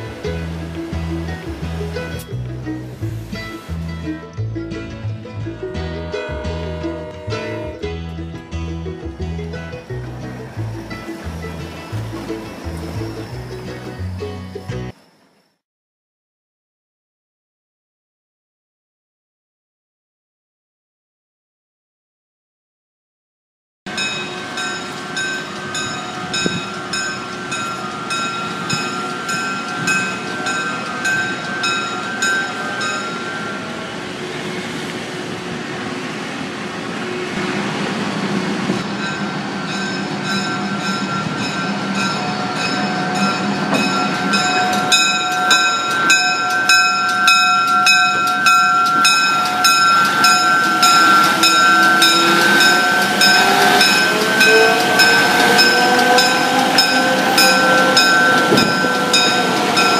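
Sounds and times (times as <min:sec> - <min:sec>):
locomotive bell ringing: 0:00.0 - 0:15.0, 0:23.9 - 0:35.9, 0:38.8 - 0:59.9
diesel locomotive engine passing: 0:00.0 - 0:15.2, 0:23.9 - 0:59.9.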